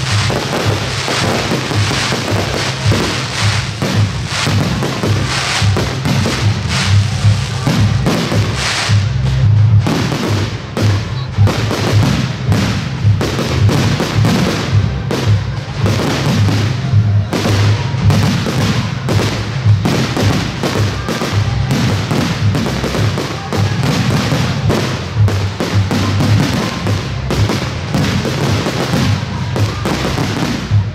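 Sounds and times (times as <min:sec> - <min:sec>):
fireworks bangs and crackling: 0:00.0 - 0:30.9
music with pulsing bass beat: 0:00.0 - 0:30.9.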